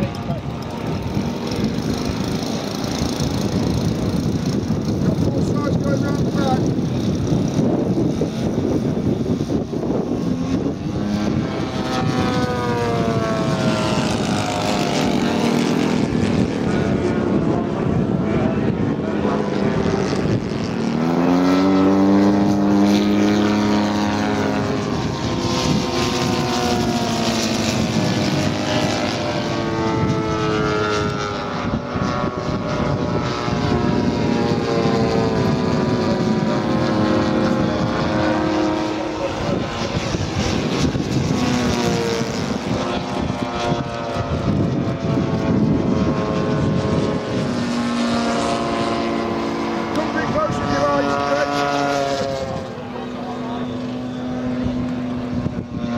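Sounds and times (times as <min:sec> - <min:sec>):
model aircraft engines: 0:00.0 - 0:55.9.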